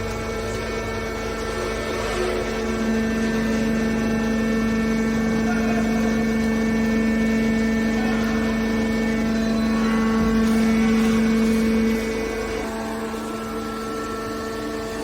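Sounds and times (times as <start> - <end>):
hydraulic unit hum and whine: 0.0 - 15.0.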